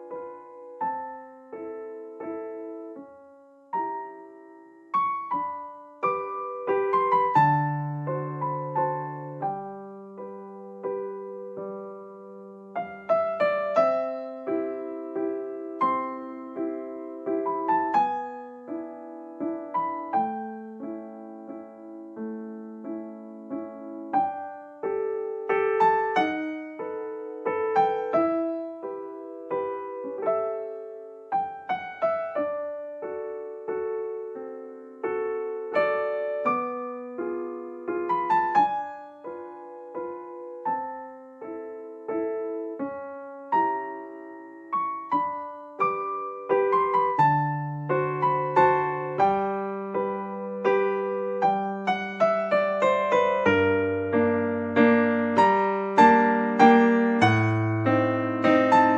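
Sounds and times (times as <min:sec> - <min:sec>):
gentle solo piano piece: 0:00.0 - 0:58.9.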